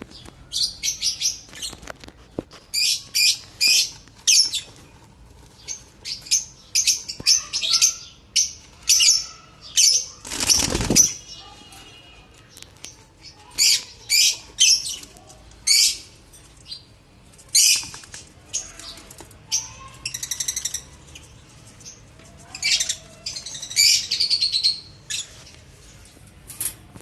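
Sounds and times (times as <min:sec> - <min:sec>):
lovebirds chirping: 0:00.0 - 0:26.6.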